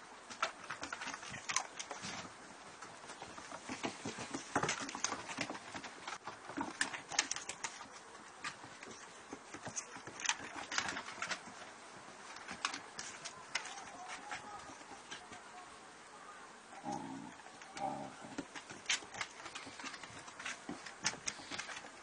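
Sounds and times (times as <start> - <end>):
dog claws clicking on wooden decking: 0.3 - 2.3, 3.1 - 15.3, 17.5 - 22.0.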